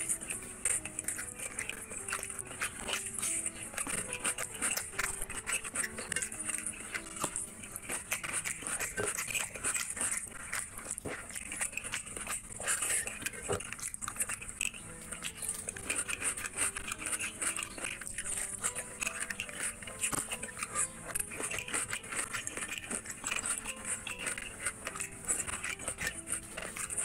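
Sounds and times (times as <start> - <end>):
soft background music: 0.0 - 27.0
wet chewing and lip smacking: 0.0 - 27.0.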